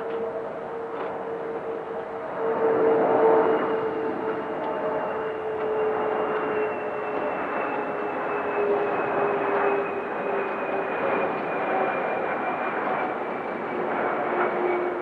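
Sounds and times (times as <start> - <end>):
high jet engine whine: 0.0 - 15.0
jet engine rush: 0.0 - 15.0
low jet engine hum: 0.0 - 15.0.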